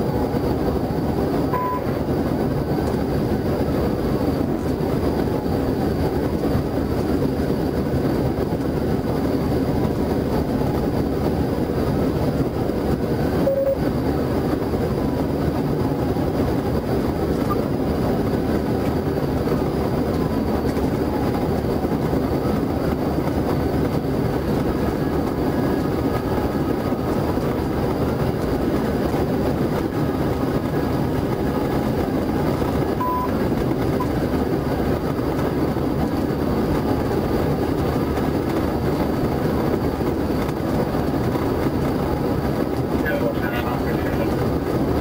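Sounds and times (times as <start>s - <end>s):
road tyre and wind noise in car: 0.0s - 45.0s.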